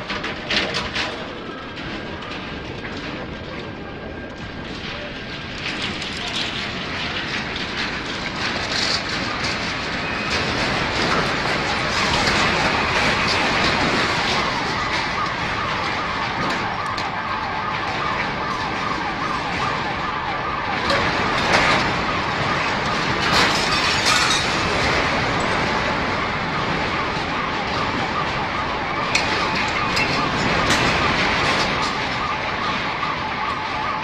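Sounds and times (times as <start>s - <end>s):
loud steady noise: 0.0s - 34.0s
alarm siren warbling: 6.0s - 34.0s.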